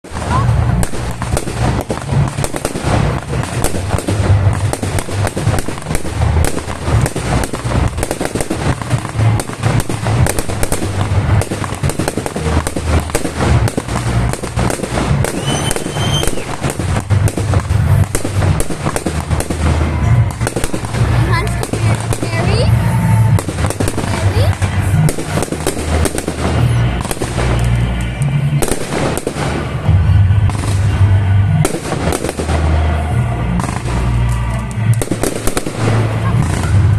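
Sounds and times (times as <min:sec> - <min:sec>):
deep fireworks booms: 0:00.0 - 0:36.9
fireworks crackling and popping: 0:00.0 - 0:36.9
rising firework whistle: 0:02.4 - 0:36.9.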